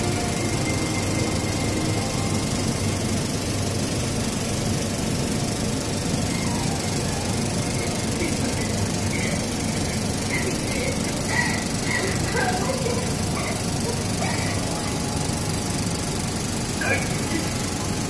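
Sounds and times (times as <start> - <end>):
film projector clatter: 0.0 - 18.0.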